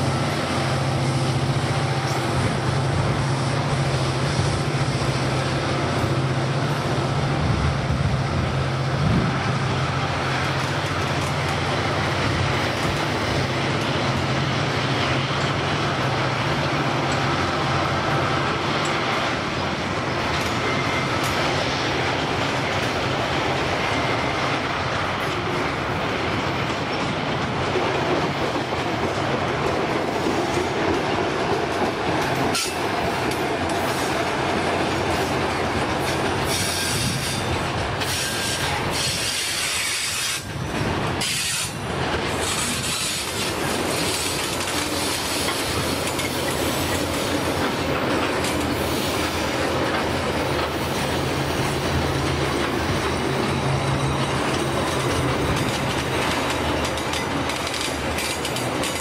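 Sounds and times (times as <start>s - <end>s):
diesel locomotive engine drone: 0.0s - 59.0s
wheels clattering over rail joints: 8.6s - 59.0s.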